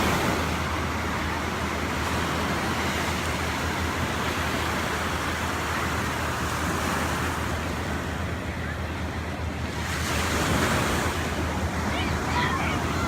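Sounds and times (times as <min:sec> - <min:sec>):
ocean surf washing ashore: 0:00.0 - 0:13.0.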